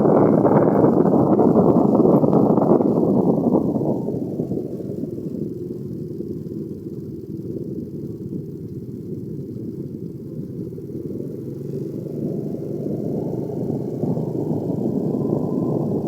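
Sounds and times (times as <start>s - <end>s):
vehicle rumbling: 0.0s - 16.0s.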